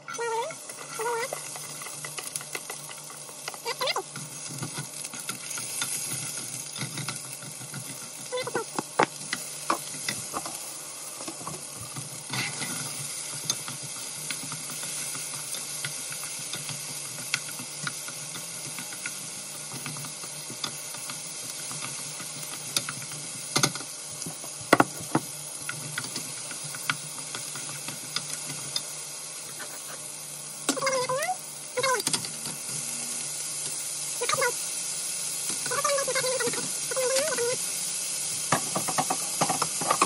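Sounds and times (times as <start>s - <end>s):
onion and tomato sizzling in pan: 0.0s - 40.0s.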